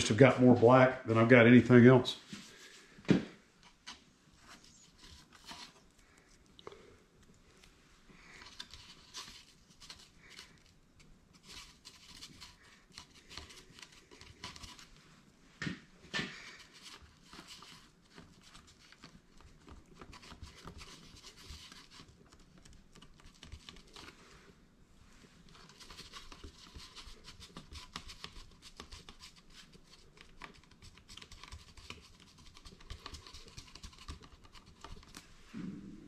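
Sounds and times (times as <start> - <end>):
scratching and crinkling: 2.1 - 15.1, 16.0 - 24.6, 25.2 - 35.7.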